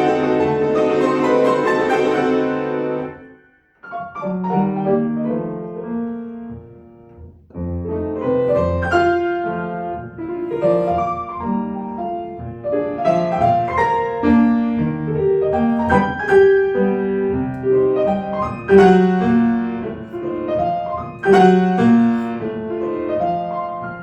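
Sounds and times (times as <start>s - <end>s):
solo piano classical music: 0.0s - 24.0s.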